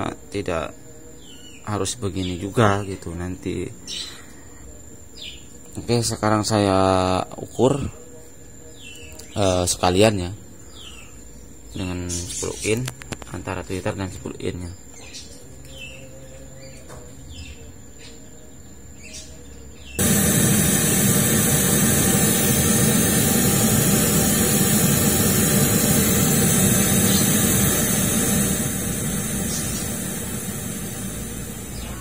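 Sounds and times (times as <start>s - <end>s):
test noise hiss from loudspeaker: 0.0s - 4.1s, 5.3s - 10.5s, 11.6s - 18.4s, 20.0s - 32.0s
faint bird chirps: 0.0s - 20.1s, 22.1s - 32.0s.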